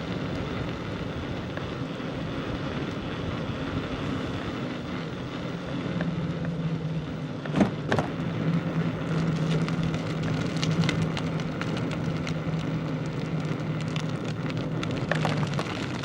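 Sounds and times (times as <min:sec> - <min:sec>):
crackling and ticking: 0:00.0 - 0:16.0
mechanical hum: 0:00.0 - 0:16.0.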